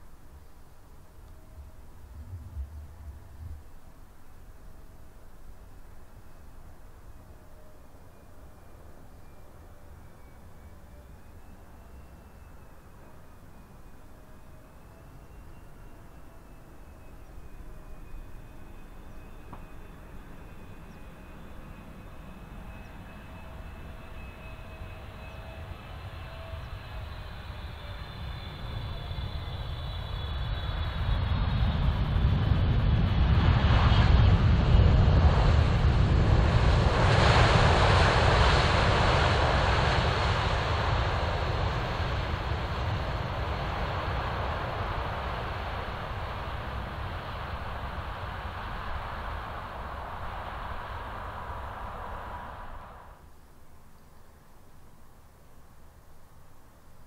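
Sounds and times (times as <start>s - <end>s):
jet engine whine: 0.0s - 53.9s.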